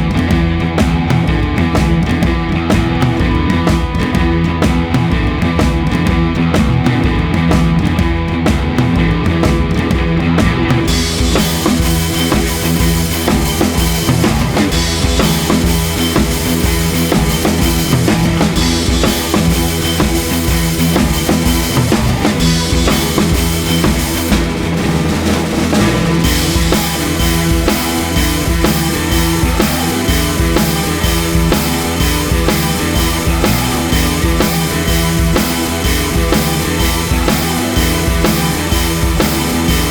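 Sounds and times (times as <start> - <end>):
rock music with guitar and drums: 0.0 - 39.9.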